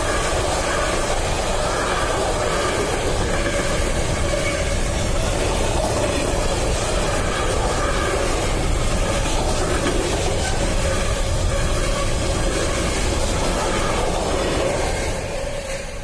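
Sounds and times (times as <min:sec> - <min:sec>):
freight train wheels clattering: 0:00.0 - 0:16.0.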